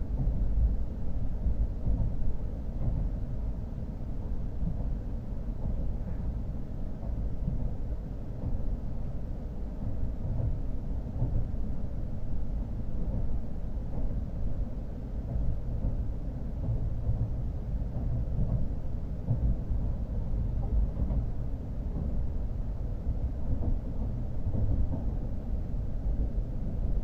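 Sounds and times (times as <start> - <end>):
train low rumble inside cabin: 0.0 - 27.0.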